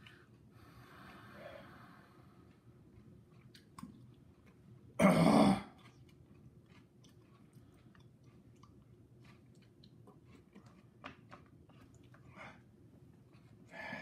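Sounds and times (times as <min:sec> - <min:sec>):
faint chewing of crunchy cereal: 0:00.0 - 0:14.0.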